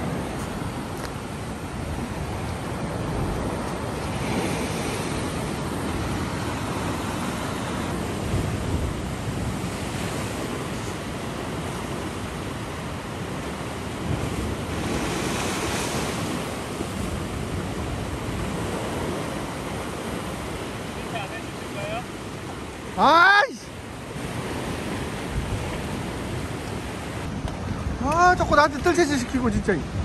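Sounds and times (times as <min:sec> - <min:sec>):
ocean surf breaking over rocks: 0:00.0 - 0:30.0.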